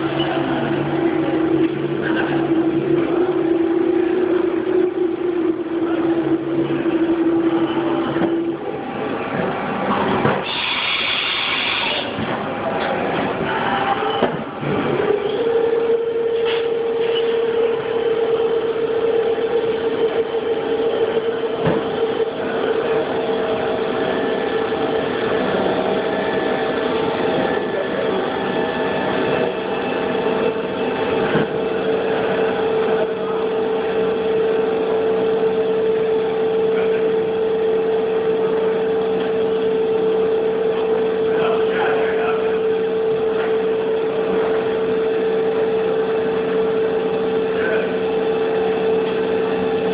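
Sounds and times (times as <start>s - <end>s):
high machine whine: 0.0s - 49.9s
machine running noise: 0.0s - 49.9s.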